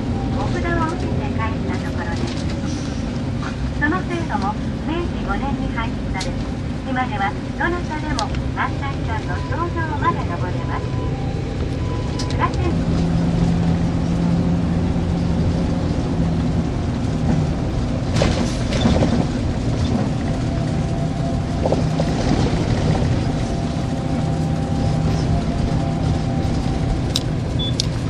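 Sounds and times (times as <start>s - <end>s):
vehicle engine drone: 0.0s - 28.0s.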